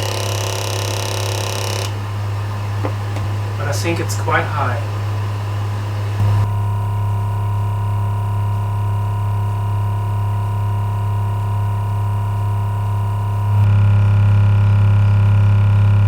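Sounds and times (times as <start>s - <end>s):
engine low hum: 0.0s - 16.0s.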